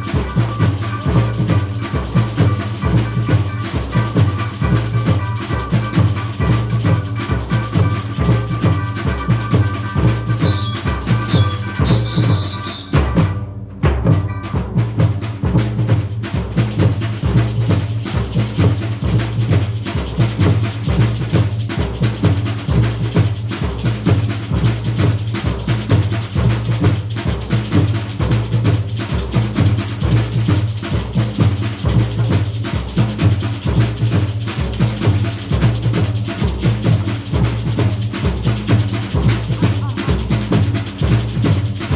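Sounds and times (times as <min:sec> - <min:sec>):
higher drums and shakers: 0:00.0 - 0:41.9.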